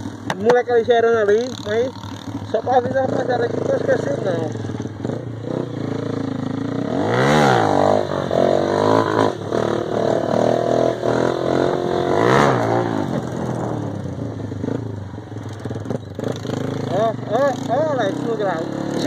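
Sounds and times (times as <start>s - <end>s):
small motorcycle engine revving: 0.0s - 19.0s.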